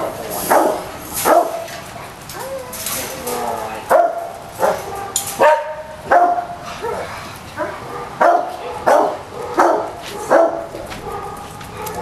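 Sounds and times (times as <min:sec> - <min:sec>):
small dogs barking: 0:00.4 - 0:02.2, 0:03.8 - 0:12.0.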